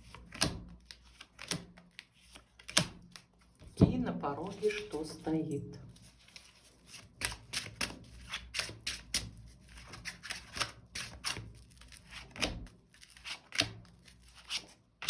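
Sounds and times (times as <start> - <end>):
cards shuffling and slapping: 0.0 - 3.8, 6.0 - 14.8.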